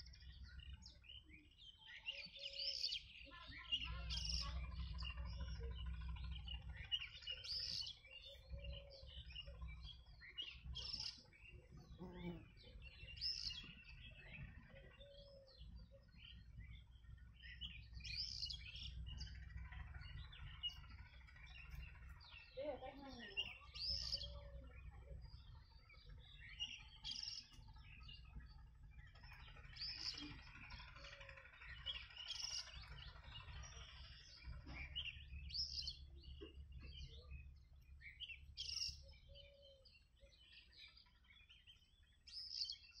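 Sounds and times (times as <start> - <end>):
low steady rumble: 0.0 - 43.0
small birds chirping: 0.0 - 43.0.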